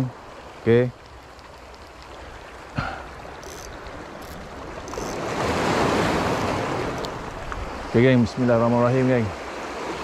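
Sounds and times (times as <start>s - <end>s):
small waves washing against bank: 0.0s - 10.0s.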